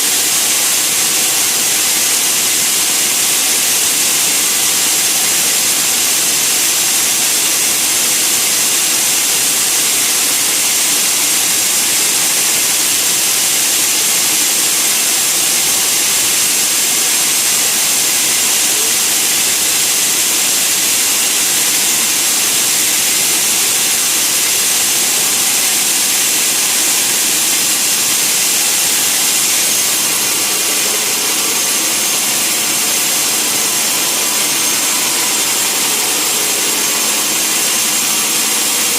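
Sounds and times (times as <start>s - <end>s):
saw cutting wood: 0.0s - 38.9s.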